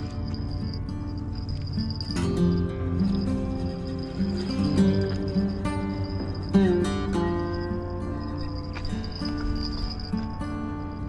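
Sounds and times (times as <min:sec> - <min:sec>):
plucked acoustic guitar: 0:00.0 - 0:11.0.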